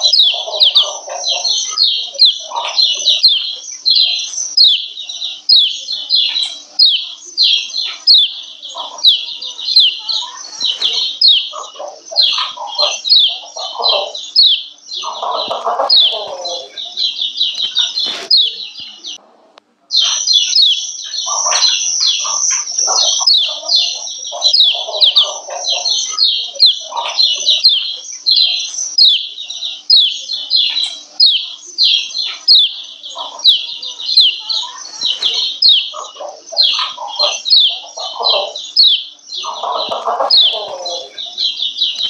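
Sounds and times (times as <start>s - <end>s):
bird high chirps: 0.0s - 19.2s, 19.9s - 42.0s
soft low bird chatter: 0.0s - 42.0s.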